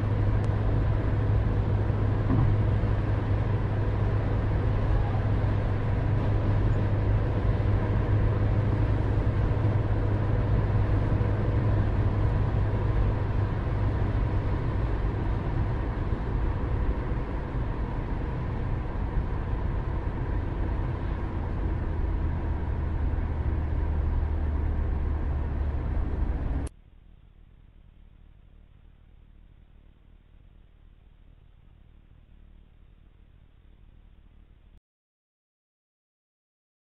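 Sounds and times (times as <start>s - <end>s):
deep hum: 0.0s - 33.1s
low rumble: 0.0s - 34.4s.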